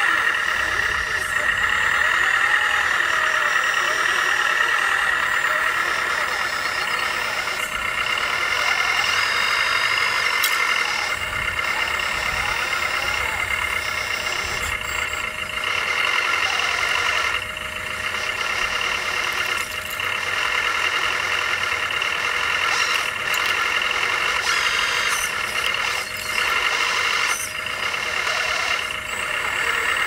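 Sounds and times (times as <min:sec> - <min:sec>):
whine of electric motors and pumps: 0:00.0 - 0:30.0.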